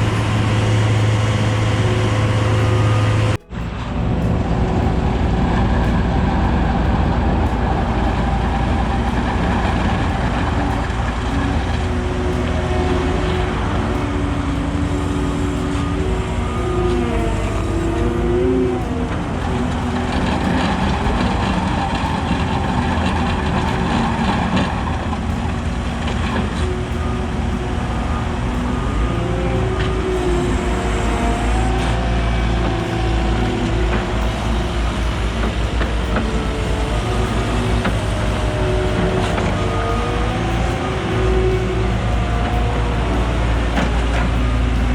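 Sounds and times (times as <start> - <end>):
diesel engine rumble: 0.0 - 44.9.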